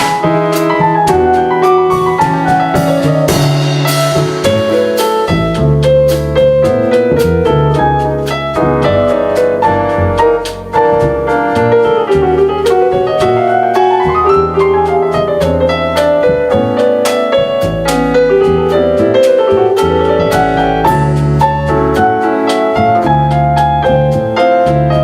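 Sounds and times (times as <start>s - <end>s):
double bass: 0.0s - 25.0s
drum kit: 0.0s - 25.0s
live jazz piano: 0.0s - 25.0s.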